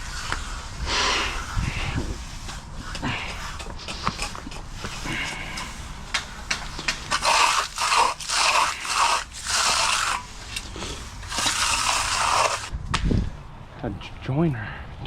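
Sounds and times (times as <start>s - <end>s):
tool scraping fresh concrete: 0.0s - 12.7s.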